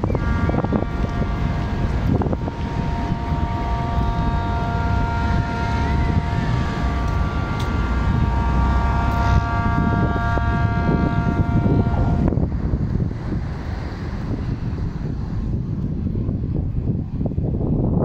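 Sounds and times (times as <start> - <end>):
low rumbling roar: 0.0 - 18.0
steady droning tone: 0.0 - 18.0
wind buffeting microphone: 0.0 - 18.0.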